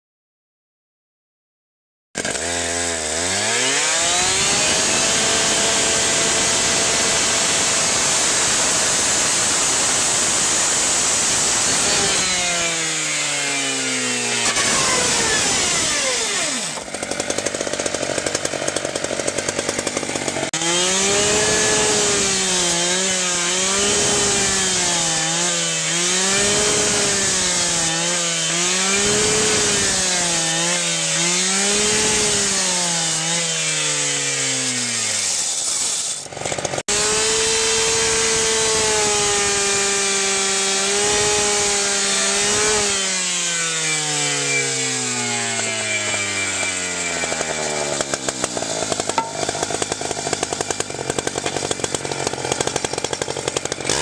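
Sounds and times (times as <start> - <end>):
cut-off saw cutting steel: 2.2 - 54.0.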